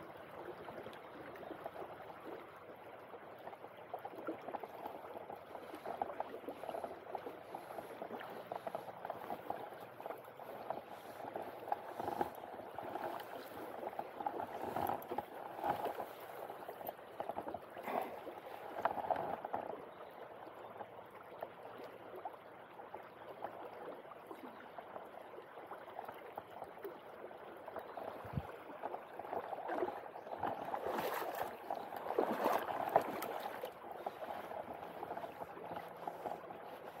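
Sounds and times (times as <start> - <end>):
river gurgling over stones: 0.0 - 21.1, 24.2 - 37.0.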